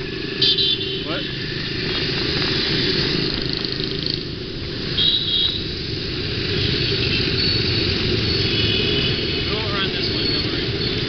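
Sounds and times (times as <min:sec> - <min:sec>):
motorbike engine: 0:00.0 - 0:11.0.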